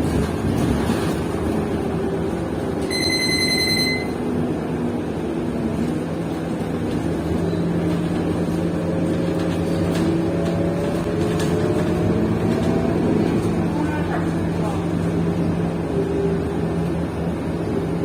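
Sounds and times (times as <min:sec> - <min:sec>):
bus engine hum: 0:00.0 - 0:18.0.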